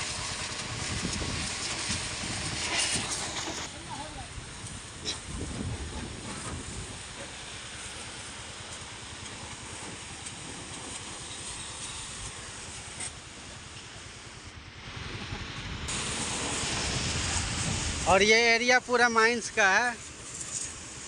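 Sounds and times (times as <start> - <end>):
pressure washer spray hissing: 0.0 - 15.2, 15.9 - 21.0.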